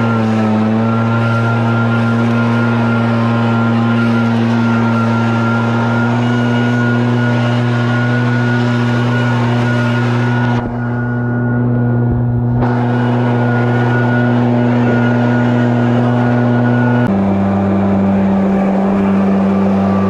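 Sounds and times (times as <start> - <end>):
leaf blower running: 0.0 - 20.0.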